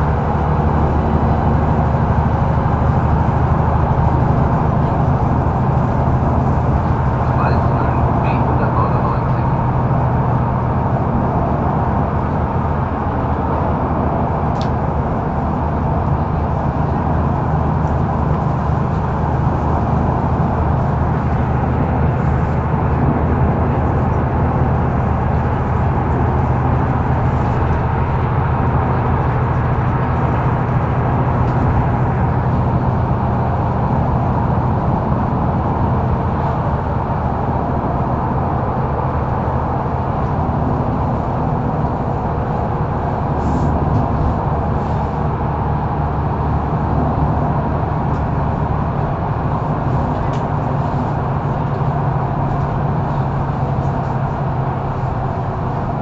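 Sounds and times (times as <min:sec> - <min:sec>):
bus diesel engine droning: 0:00.0 - 0:56.0
road noise: 0:00.0 - 0:56.0.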